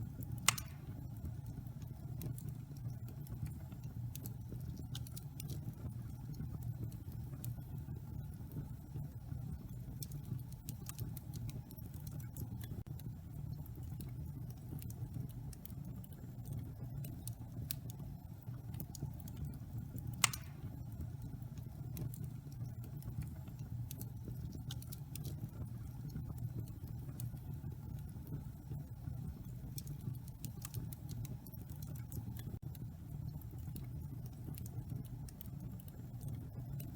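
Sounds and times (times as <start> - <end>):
fireplace fire crackling: 0.0 - 36.9.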